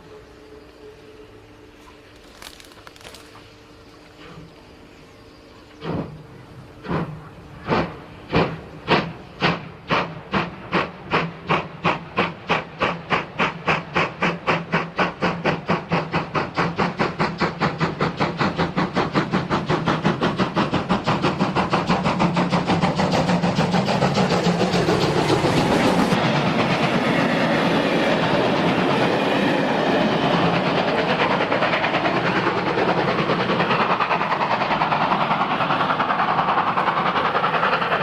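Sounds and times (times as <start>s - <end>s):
steam locomotive exhaust beats: 0.0s - 38.0s.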